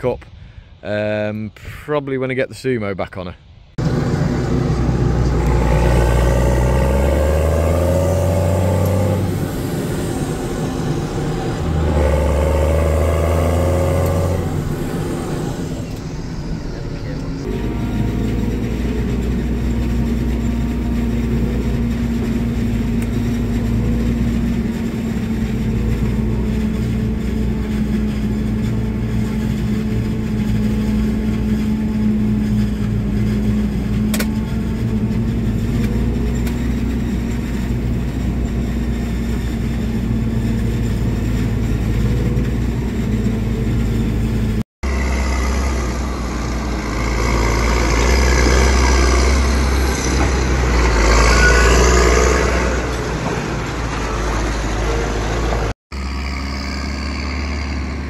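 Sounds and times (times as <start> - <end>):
forage harvester and tractor drone: 0.0 - 58.0
tractor engine towing trailer: 3.8 - 58.0.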